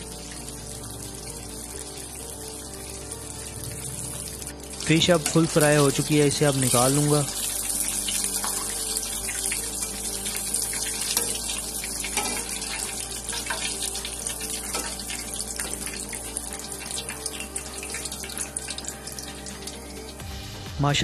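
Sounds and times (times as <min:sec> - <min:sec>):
oil sizzling and crackling: 0:00.0 - 0:20.3.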